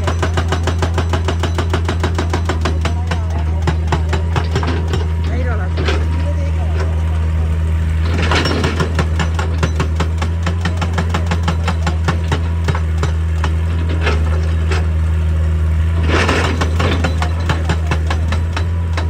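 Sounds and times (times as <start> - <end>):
diesel engine under load: 0.0 - 19.0
hydraulic breaker pounding rock: 0.0 - 19.0.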